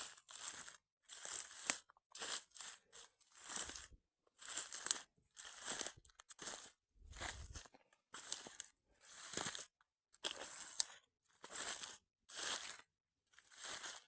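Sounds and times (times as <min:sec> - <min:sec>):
footsteps crunching on forest litter: 0:00.3 - 0:12.9.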